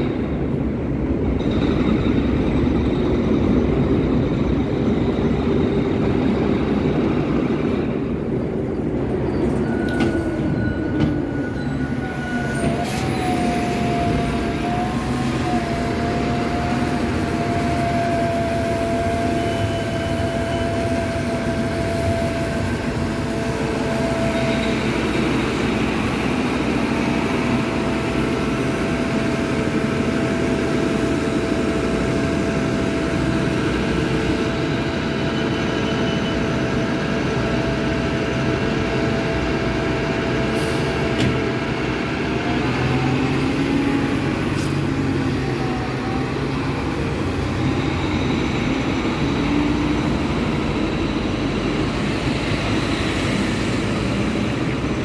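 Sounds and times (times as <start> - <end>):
bus diesel engine whine: 0.0 - 55.0
traffic noise: 0.0 - 55.0.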